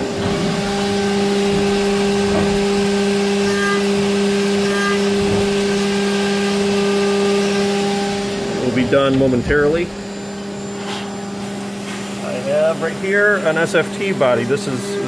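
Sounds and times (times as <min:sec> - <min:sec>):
milling spindle humming: 0:00.0 - 0:15.0.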